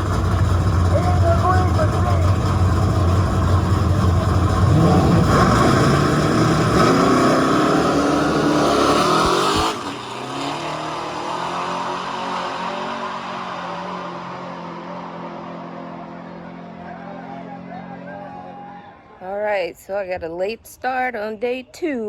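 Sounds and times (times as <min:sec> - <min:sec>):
car engine revving: 0:00.0 - 0:18.7.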